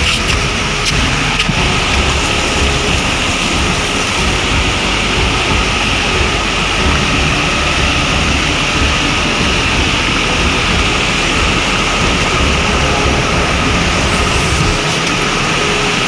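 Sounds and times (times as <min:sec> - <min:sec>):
river rushing over stones: 0:00.0 - 0:16.0
wind rumbling on microphone: 0:00.0 - 0:16.0.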